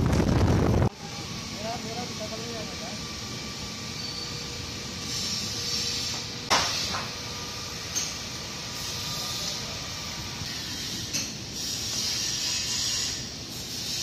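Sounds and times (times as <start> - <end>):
workshop machinery noise: 0.0 - 14.0.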